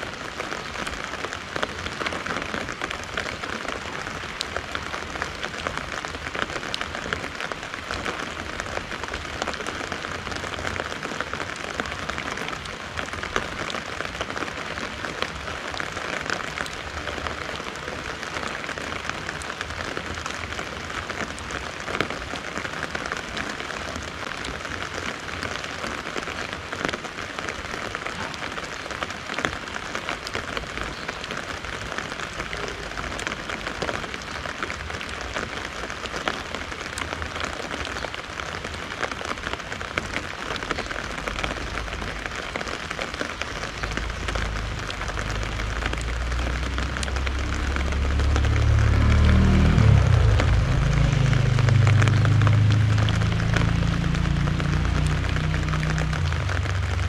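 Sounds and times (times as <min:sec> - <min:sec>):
rain falling on garden: 0:00.0 - 0:57.0
rain pattering on umbrella: 0:00.0 - 0:57.0.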